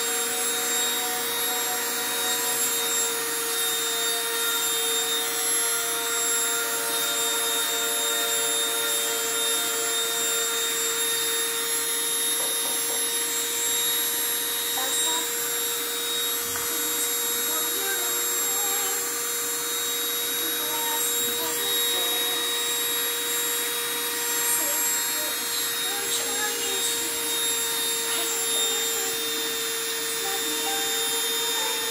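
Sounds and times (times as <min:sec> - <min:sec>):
rotary tool motor whine: 0:00.0 - 0:31.9.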